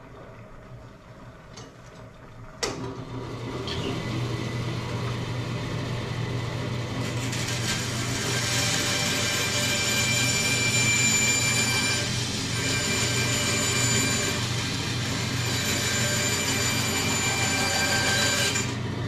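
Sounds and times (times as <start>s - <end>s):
bandsaw motor humming: 2.8s - 19.0s.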